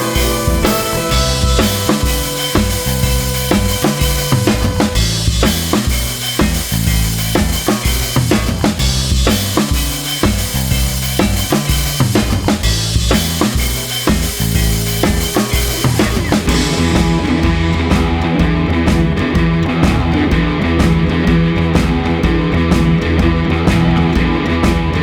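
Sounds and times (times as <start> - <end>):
sustained guitar chords: 0.0 - 9.0, 12.6 - 25.0
rock drum beat with bass: 0.0 - 25.0.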